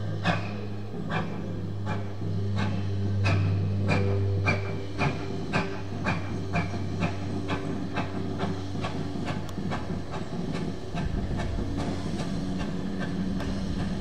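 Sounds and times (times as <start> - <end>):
steam hissing from drain cocks: 0.0 - 14.0
steam locomotive chuffing: 0.0 - 14.0.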